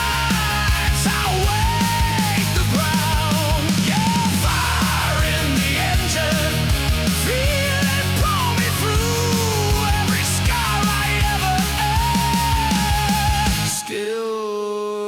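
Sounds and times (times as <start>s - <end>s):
driving bass and drums: 0.0s - 13.8s.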